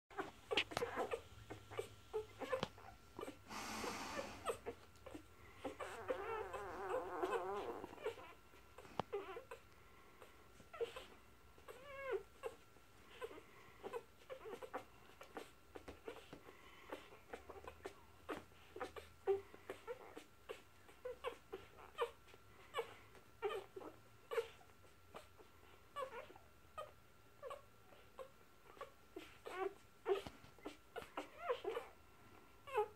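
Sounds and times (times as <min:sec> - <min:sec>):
puppies squeaking and whimpering: 0:00.1 - 0:32.0, 0:32.6 - 0:32.9
puppy whining: 0:00.1 - 0:32.9.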